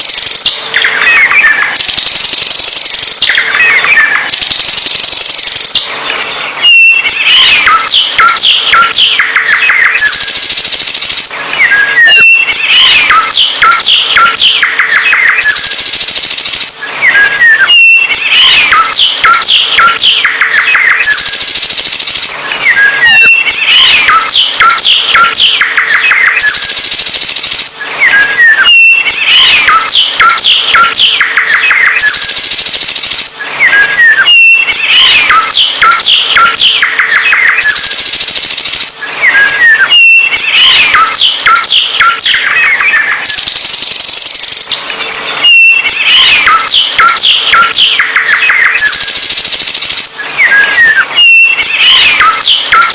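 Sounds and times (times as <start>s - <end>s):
songbird singing: 0.0s - 49.2s, 50.0s - 52.9s.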